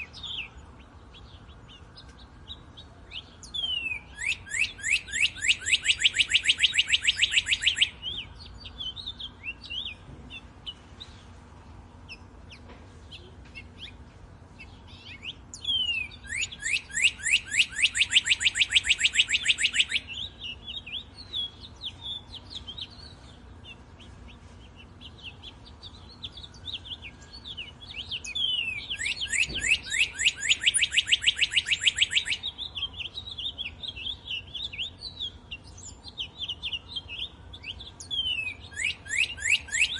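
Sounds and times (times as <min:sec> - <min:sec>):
bird singing fast trill: 0:00.0 - 0:11.3, 0:12.0 - 0:39.9
faint bird chirps: 0:00.0 - 0:11.4, 0:12.0 - 0:39.9.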